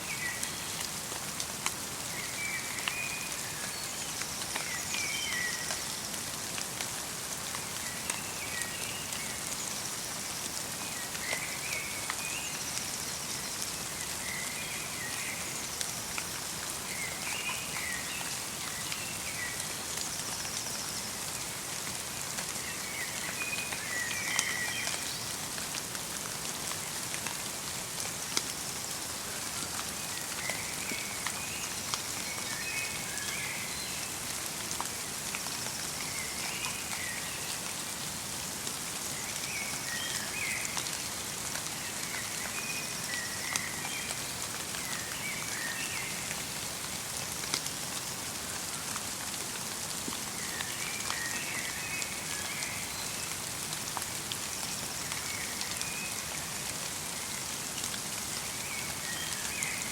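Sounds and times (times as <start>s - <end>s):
rain and snow pattering: 0.0s - 59.9s.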